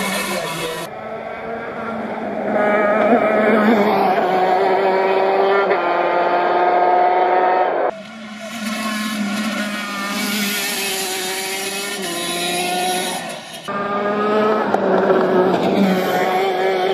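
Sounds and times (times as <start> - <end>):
kart engine running at high revs: 0.0 - 16.9.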